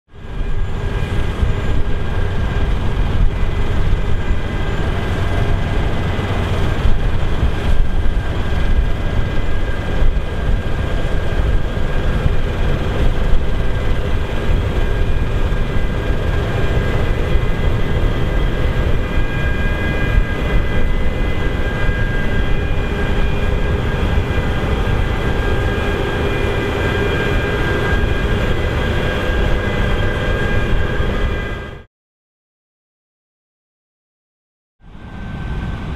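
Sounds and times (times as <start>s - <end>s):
combine harvester engine drone: 0.1s - 31.9s, 34.8s - 35.9s
threshing machinery whines: 0.2s - 31.8s.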